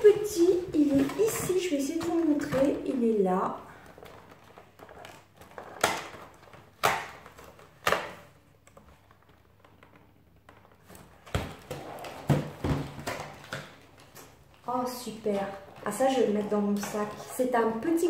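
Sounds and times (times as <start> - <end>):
knocks and handling noises: 0.0 - 18.0.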